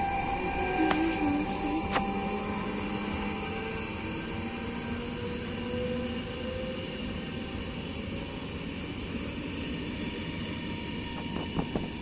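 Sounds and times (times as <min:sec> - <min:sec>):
faint locomotive tone: 0:00.0 - 0:12.0
train wheels rumbling on rails: 0:00.0 - 0:12.0.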